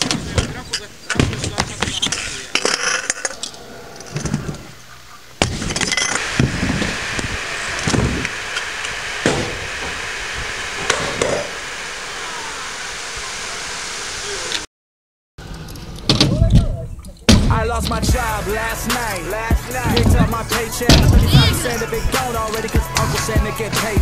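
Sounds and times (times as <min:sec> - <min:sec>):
outdoor noise hiss: 0:00.0 - 0:14.7, 0:18.0 - 0:24.0.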